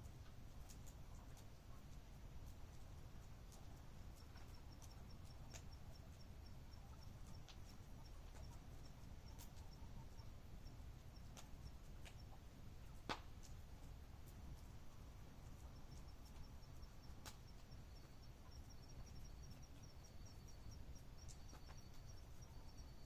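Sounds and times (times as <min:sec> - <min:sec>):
campfire crackling and popping: 0:00.0 - 0:22.6
rapid high ticks: 0:00.7 - 0:12.4, 0:15.4 - 0:23.0.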